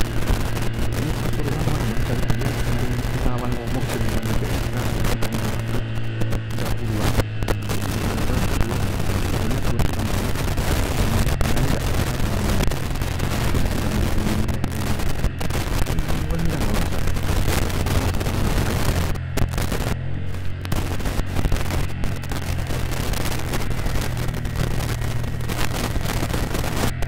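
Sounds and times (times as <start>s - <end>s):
motorcycle engine droning: 0.0s - 27.0s
wind and rain on microphone: 0.0s - 27.0s.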